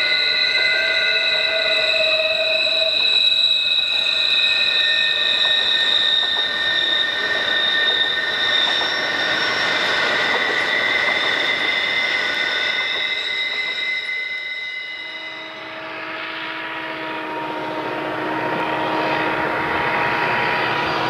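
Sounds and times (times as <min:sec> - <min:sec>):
train rumble and clatter: 0:00.0 - 0:21.0
train wheels squealing: 0:00.0 - 0:21.0.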